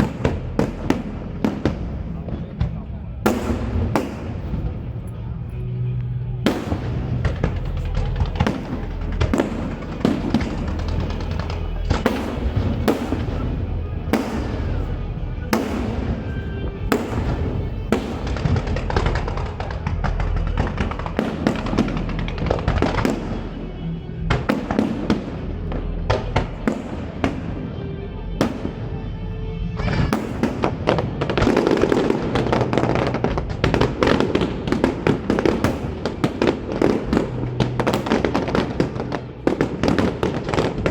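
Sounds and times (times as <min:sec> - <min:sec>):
fireworks bursting: 0:00.0 - 0:29.0, 0:29.7 - 0:40.9
music: 0:00.0 - 0:40.9.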